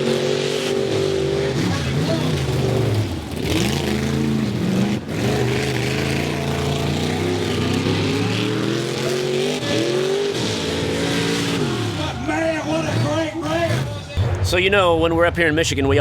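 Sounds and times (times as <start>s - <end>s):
truck engine revving: 0.0s - 14.6s.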